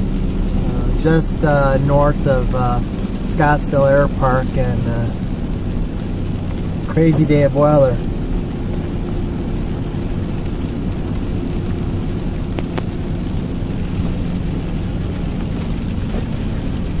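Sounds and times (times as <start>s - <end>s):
car engine hum: 0.0s - 17.0s
heavy rain: 0.0s - 17.0s
tyres on wet road: 0.0s - 17.0s.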